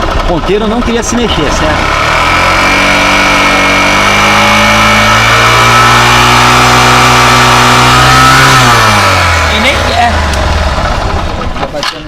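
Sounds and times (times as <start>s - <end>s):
small motorcycle engine revving: 0.0s - 11.7s.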